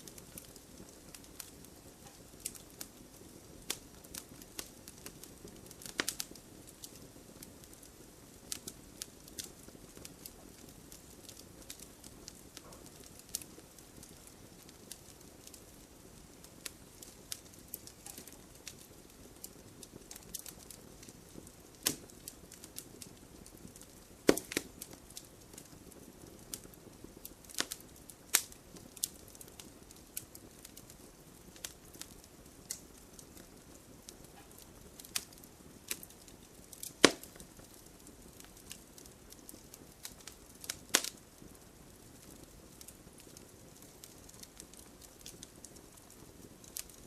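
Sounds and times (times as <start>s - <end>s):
campfire hissing: 0.0s - 47.0s
fire crackles and pops: 0.0s - 47.0s.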